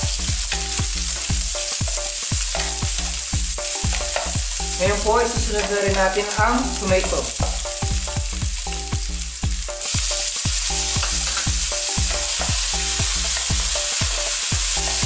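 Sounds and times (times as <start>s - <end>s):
wooden spatula stirring in pan: 0.0s - 8.2s, 8.9s - 15.0s
onion frying in hot oil: 0.0s - 15.0s.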